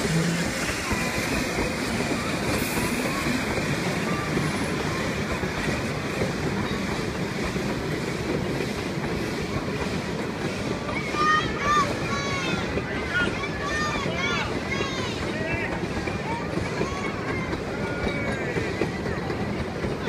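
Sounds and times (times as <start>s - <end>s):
train carriages rolling on rails: 0.0s - 20.0s.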